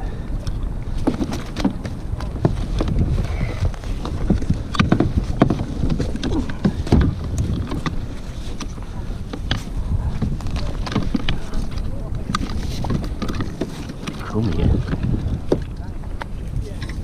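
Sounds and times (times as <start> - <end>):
water slapping hull: 0.0 - 17.0
wind rumbling on microphone: 0.0 - 17.0.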